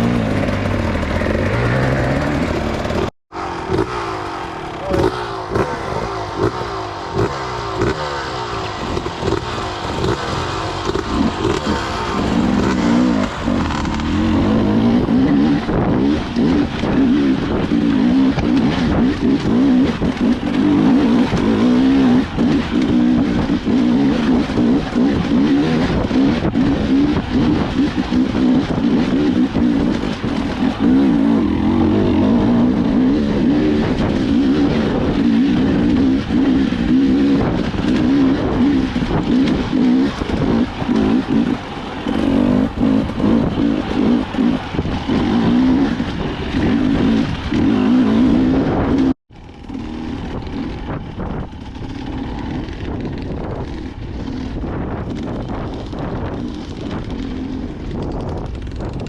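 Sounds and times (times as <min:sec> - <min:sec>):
dirt bike engine revving: 0:00.0 - 0:59.0
quieter steady engine: 0:00.0 - 0:59.0
wind on microphone: 0:07.2 - 0:59.0.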